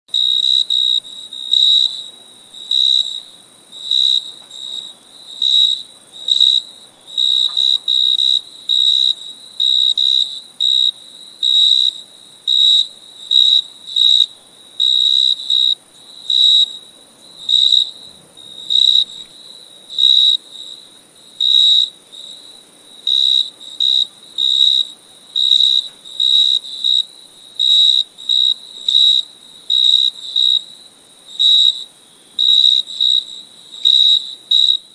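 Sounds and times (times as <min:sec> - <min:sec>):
cricket chirping: 0:00.1 - 0:34.9.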